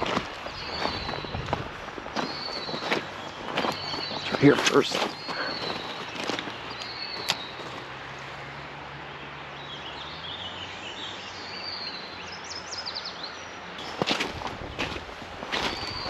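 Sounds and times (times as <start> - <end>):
birds chirping: 0.0 - 16.0
creek water flowing: 0.0 - 16.0.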